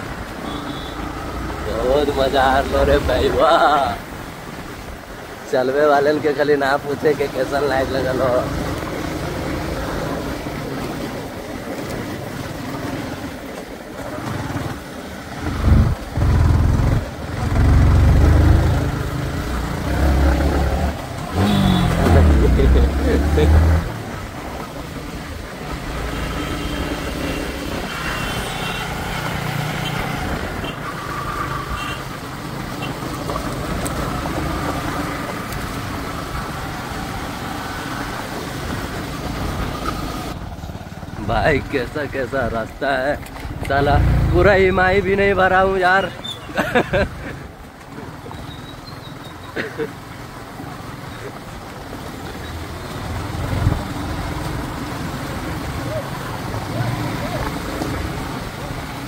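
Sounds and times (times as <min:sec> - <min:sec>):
road and wind noise: 0:00.0 - 0:59.0
vehicle engine rumbling: 0:07.2 - 0:59.0.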